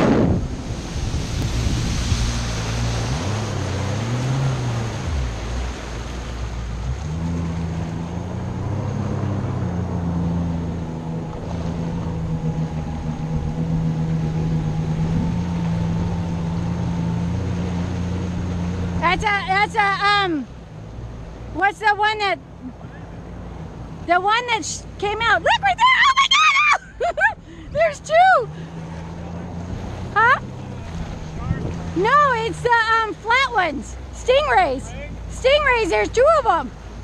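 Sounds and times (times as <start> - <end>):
jet ski engine running: 0.0 - 37.0
water rushing and spraying: 0.0 - 37.0.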